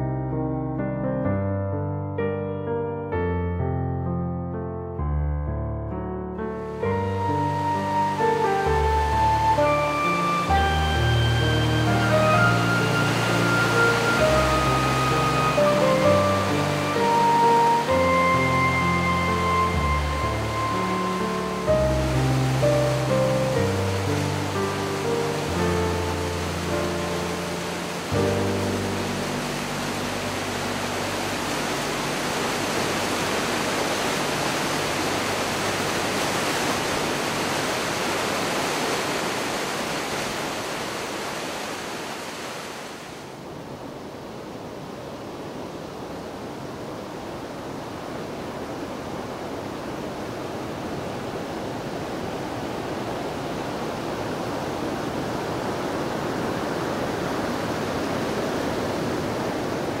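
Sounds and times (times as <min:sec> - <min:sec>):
water rushing: 0:06.5 - 1:00.0.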